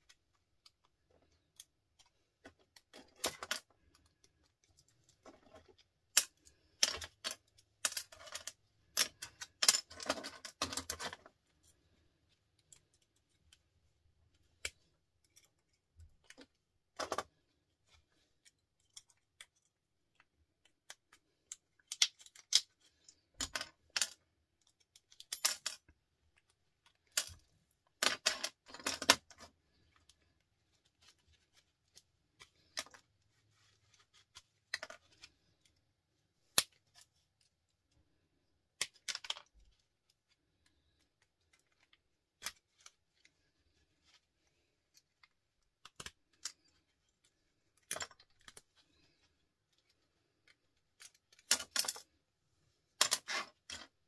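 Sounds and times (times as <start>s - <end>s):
small plastic and metal parts rattling: 0.0s - 11.4s, 14.3s - 35.8s, 38.7s - 52.2s, 52.9s - 54.0s.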